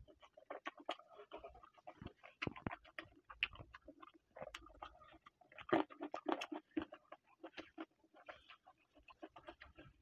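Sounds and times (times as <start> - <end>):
wet chewing mouth sounds: 0.0 - 10.0.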